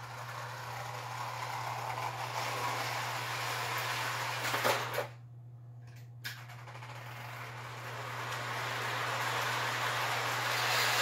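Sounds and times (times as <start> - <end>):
toy train running on track: 0.0 - 5.1, 6.3 - 11.0.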